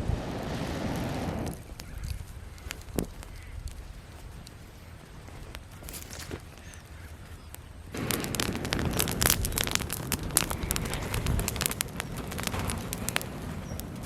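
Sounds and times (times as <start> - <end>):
campfire crackling and sizzling: 0.0 - 14.0
sharp pops: 0.0 - 14.0.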